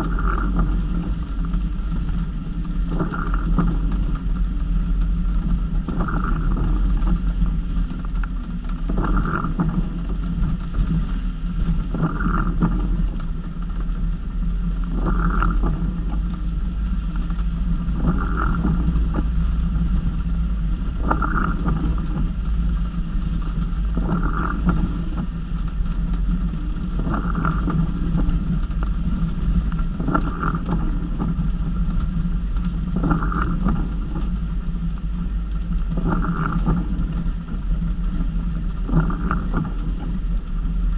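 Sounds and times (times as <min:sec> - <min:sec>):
vehicle engine low hum: 0:00.0 - 0:40.9.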